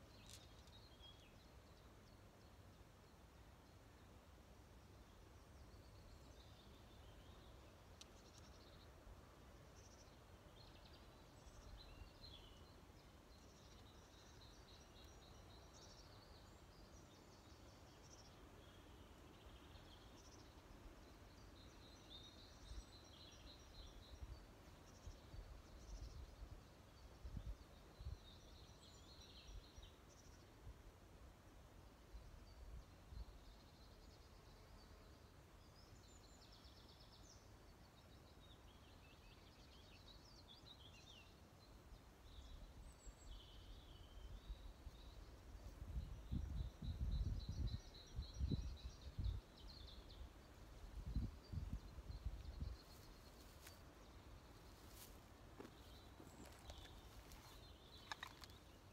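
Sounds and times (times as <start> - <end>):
small birds chirping: 0.0 - 4.0, 4.9 - 30.6, 32.1 - 58.9.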